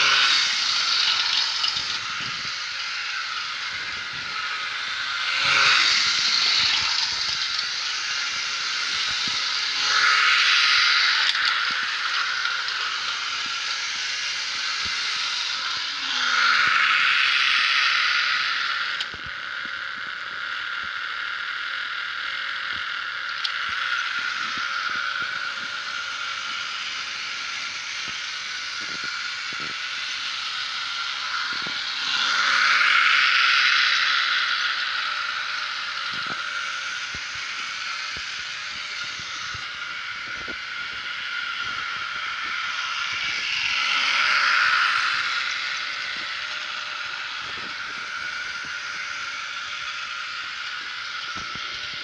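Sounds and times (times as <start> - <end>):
model train motor whirring: 0.0 - 52.0.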